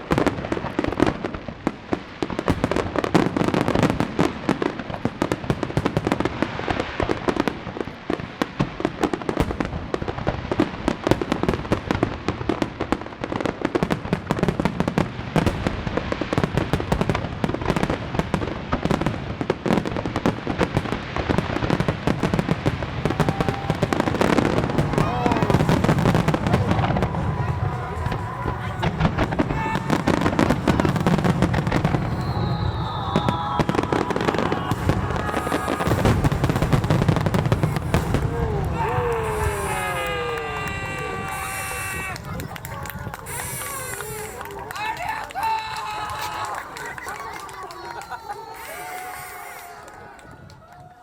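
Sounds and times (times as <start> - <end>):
fireworks bursting: 0.0 - 50.6.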